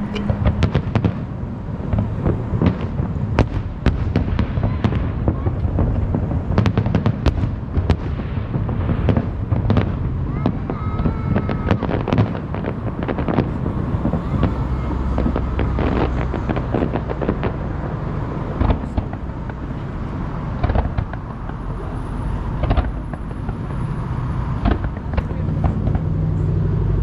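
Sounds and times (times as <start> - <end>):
fireworks cracks and bangs: 0.1 - 26.6.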